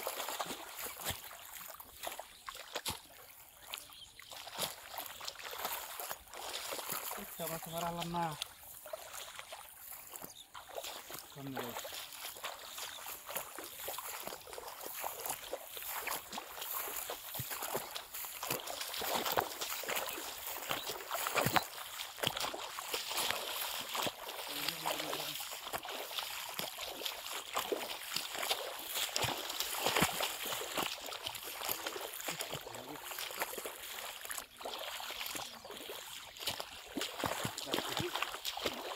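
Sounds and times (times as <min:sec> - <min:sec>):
footsteps splashing in water: 0:00.0 - 0:38.9.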